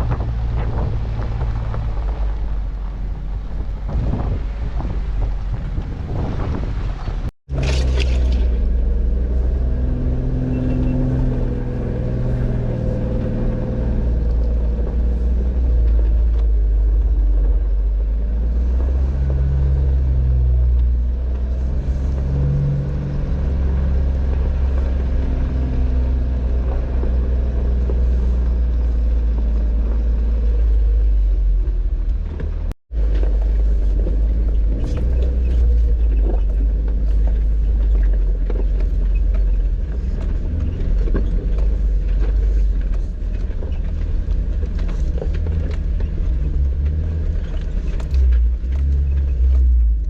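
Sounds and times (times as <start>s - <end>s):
off-road vehicle engine rumble: 0.0s - 50.0s.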